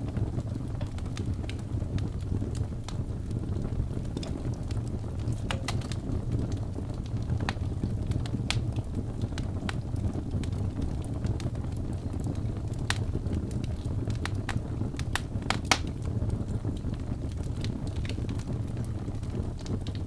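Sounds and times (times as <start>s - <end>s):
fire flames rumbling: 0.0s - 20.0s
logs crackling and popping: 0.0s - 20.0s.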